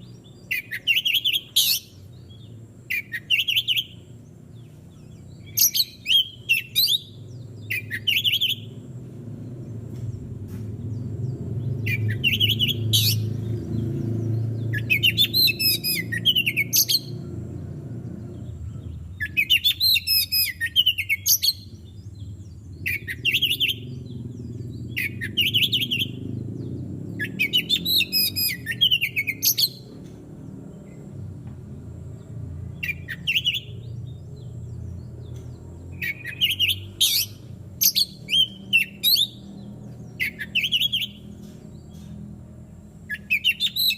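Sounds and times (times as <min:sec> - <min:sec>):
bird singing and warbling: 0:00.0 - 0:43.9
low background rumble: 0:03.8 - 0:43.6.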